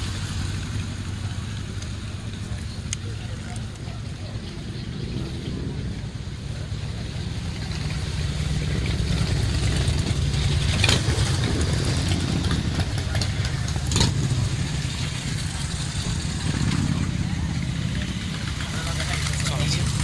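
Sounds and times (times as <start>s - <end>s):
motorcycle engines humming: 0.0s - 20.0s.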